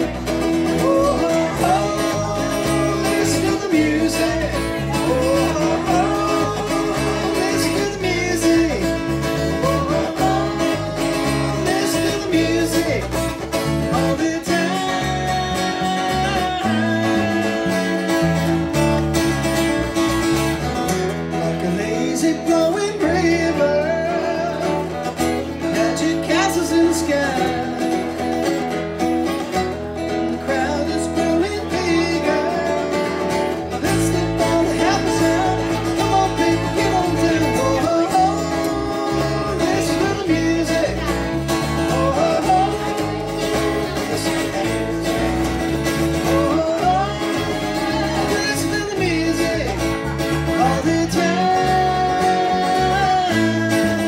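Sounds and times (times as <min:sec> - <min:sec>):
acoustic guitar: 0:00.0 - 0:54.0
electric bass guitar: 0:00.0 - 0:54.0
man singing: 0:00.0 - 0:54.0.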